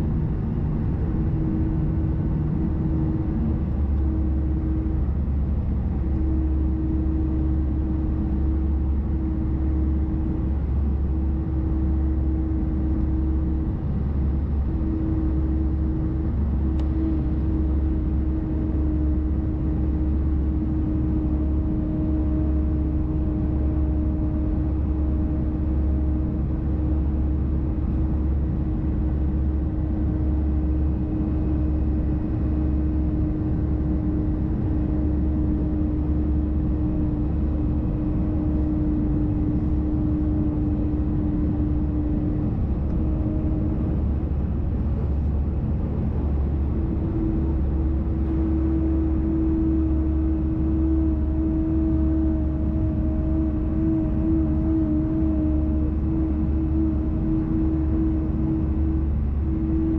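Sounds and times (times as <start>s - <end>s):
aircraft engine rumble: 0.0s - 59.9s
jet engine howling tone: 0.0s - 59.9s.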